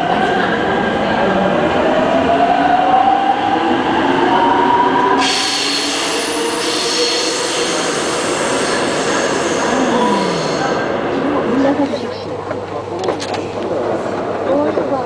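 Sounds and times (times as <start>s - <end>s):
rumble of wheels on track: 0.0s - 15.0s.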